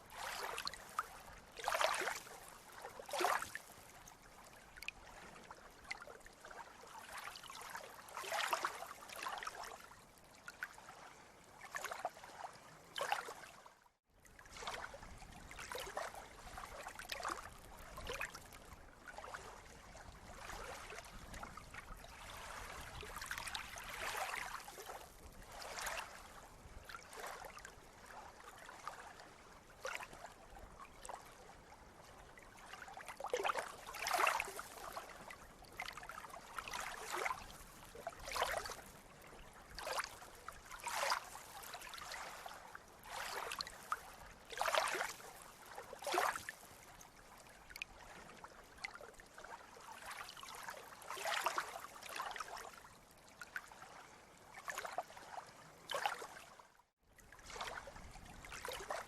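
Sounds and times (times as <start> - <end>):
water splashing and lapping: 0.0 - 13.7, 14.3 - 59.0.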